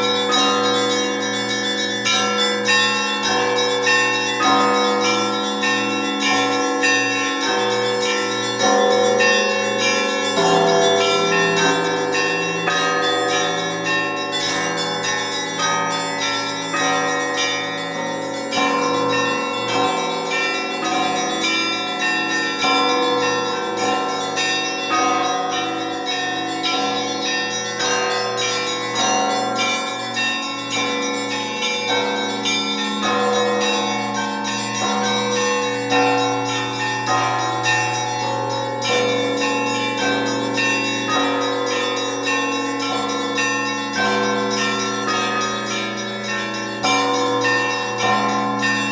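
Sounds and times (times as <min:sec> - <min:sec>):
large bells humming: 0:00.0 - 0:48.9.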